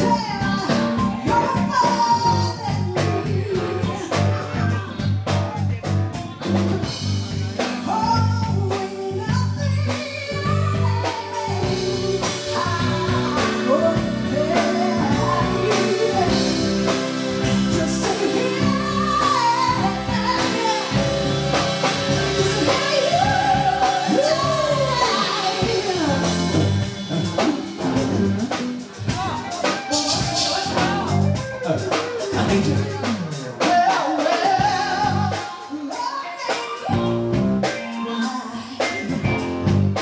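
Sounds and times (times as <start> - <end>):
woman singing into microphone: 0.0 - 5.1, 7.6 - 28.3, 29.0 - 39.4
live band playing: 0.0 - 40.0.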